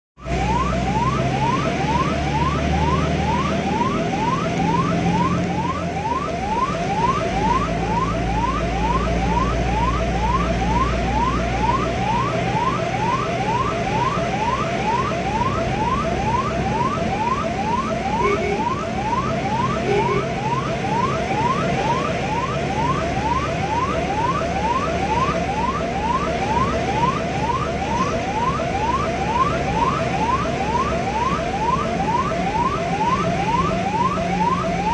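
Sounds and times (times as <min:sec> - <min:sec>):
ambulance siren yelping: 0:00.2 - 0:34.9
engine and road rumble: 0:00.2 - 0:34.9.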